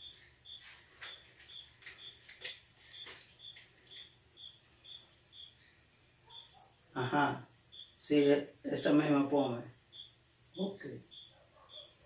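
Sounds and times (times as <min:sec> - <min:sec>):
crickets chirping: 0:00.0 - 0:12.0
steady high insect trill: 0:00.0 - 0:12.0.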